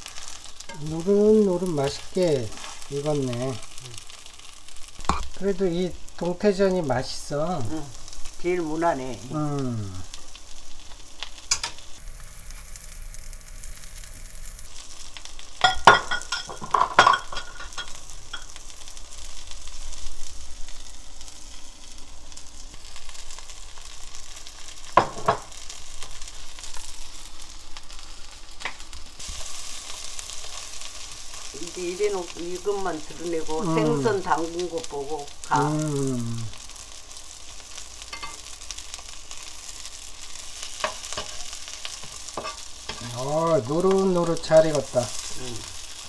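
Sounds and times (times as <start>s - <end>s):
fish sizzling in oil: 0.0s - 46.0s.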